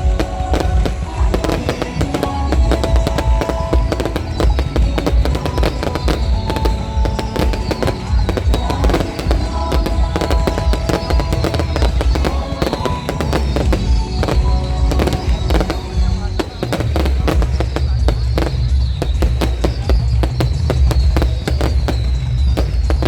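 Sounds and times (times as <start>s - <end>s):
fireworks bangs and crackling: 0.0s - 23.0s
heavy booming: 0.0s - 23.0s.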